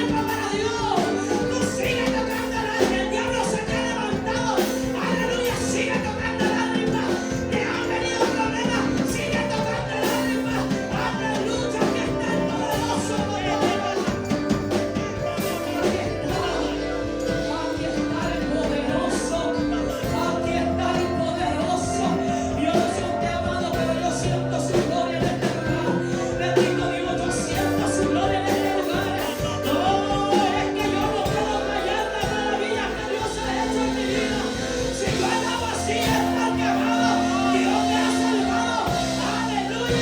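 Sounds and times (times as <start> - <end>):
person singing: 0.0 - 40.0
upbeat gospel band with drums: 0.0 - 40.0.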